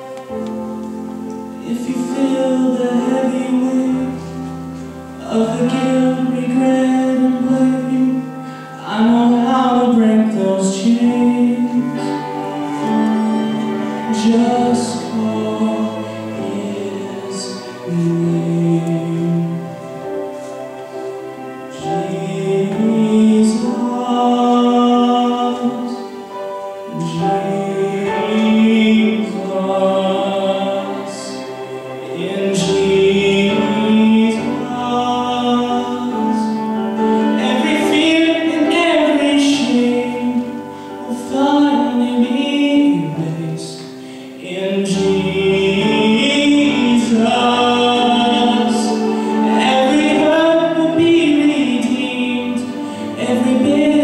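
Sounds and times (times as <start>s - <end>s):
instrumental accompaniment with bass: 0.0s - 54.0s
person singing long sliding notes: 0.0s - 54.0s.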